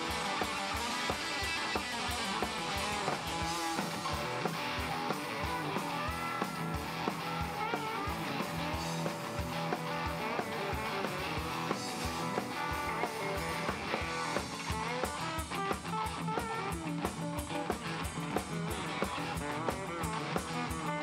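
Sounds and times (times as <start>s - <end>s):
drum kit beat: 0.0s - 21.0s
electric guitars: 0.0s - 21.0s
upright bass: 0.0s - 21.0s.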